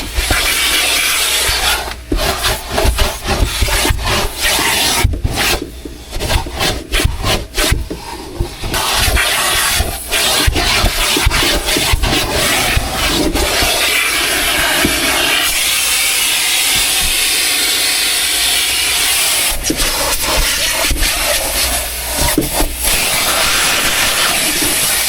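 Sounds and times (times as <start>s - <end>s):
nozzle scraping on carpet: 0.0s - 25.0s
vacuum hose sucking: 0.0s - 25.0s.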